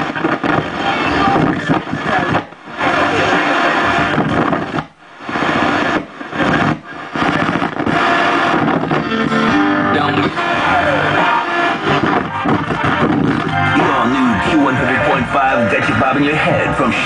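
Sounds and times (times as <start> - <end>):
music on radio: 0.0 - 17.0
radio stations tuning in and out: 0.0 - 17.0.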